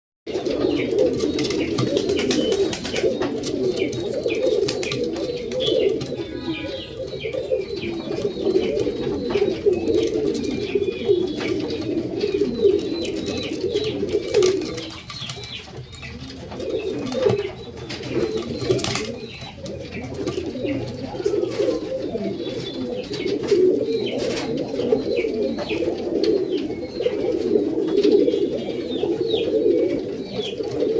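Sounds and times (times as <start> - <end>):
pigeons cooing: 0.3 - 30.9.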